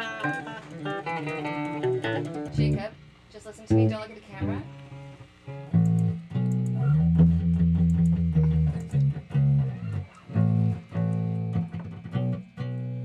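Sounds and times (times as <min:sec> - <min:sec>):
guitar chords: 0:00.0 - 0:13.0
bass: 0:00.8 - 0:13.0.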